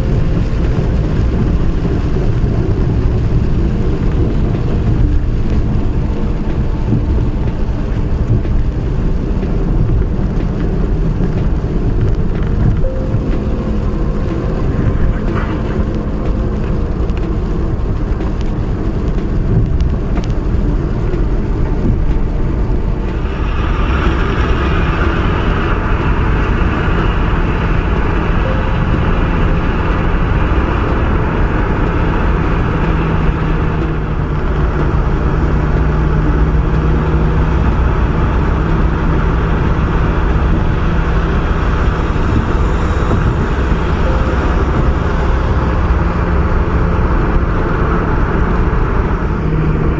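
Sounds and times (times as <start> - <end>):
road and engine rumble: 0.0 - 49.9.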